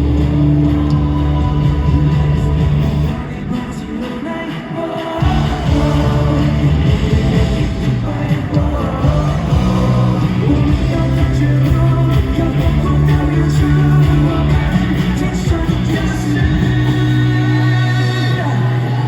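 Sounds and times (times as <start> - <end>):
person singing: 0.0 - 19.0
pop-rock band playing live: 0.0 - 19.0.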